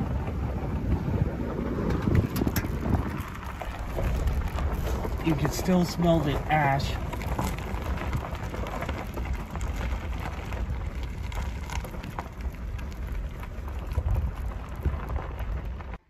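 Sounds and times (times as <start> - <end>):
tyres crackling over gravel: 0.0 - 16.0
vehicle low rumble: 0.0 - 16.0.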